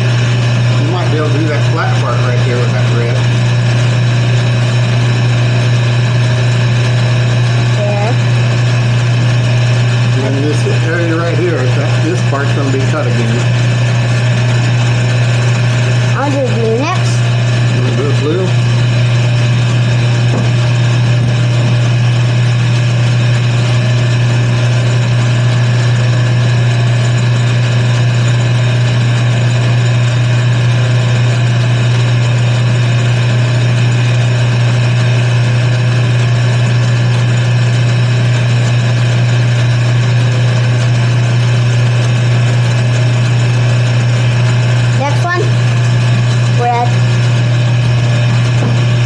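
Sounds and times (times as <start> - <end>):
wood lathe humming: 0.0 - 49.0.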